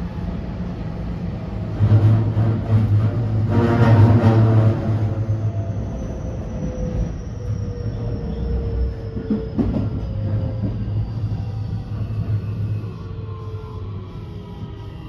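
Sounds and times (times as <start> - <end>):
wheel and rail rumble: 0.0 - 12.8
electric train inverter whine: 0.0 - 15.0.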